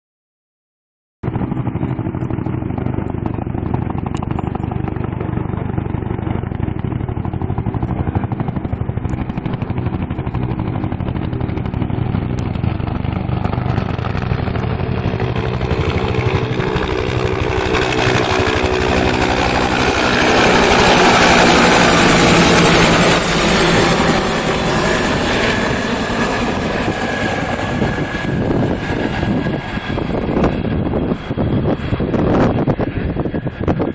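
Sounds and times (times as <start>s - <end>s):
helicopters flying overhead: 1.2s - 33.9s.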